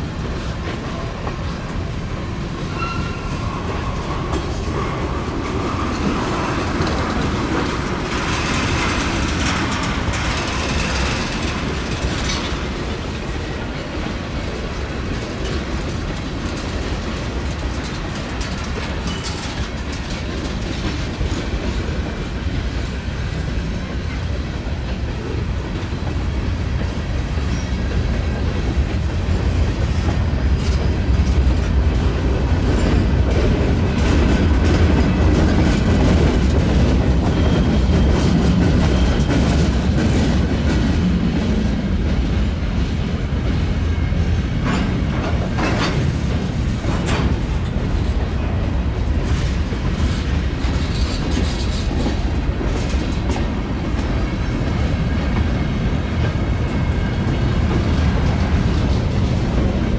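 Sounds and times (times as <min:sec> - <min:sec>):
train wheels rumbling and clicking: 0:00.0 - 0:59.9.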